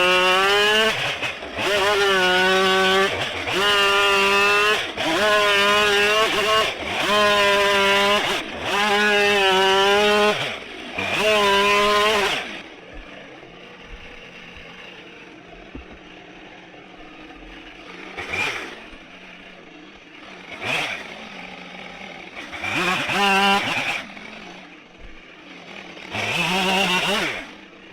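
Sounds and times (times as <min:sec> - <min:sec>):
chainsaw running at full throttle: 0:00.0 - 0:27.9.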